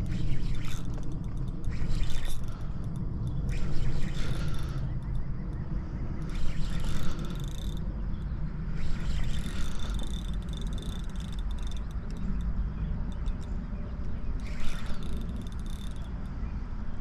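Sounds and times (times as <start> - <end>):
fishing reel cranking whir: 0.0 - 5.6, 6.2 - 13.6, 14.4 - 16.3
wind rumble on microphone: 0.0 - 17.0.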